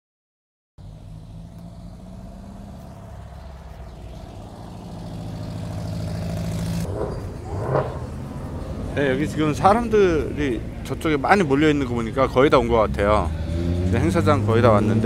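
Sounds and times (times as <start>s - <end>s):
car engine driving past: 0.8s - 10.9s, 12.6s - 15.0s.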